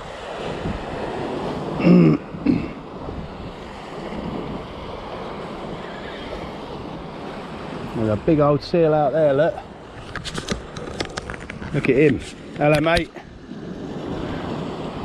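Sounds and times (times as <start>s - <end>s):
wind on the microphone: 0.0s - 8.6s, 9.5s - 15.0s
sea waves washing against rocks: 0.0s - 15.0s.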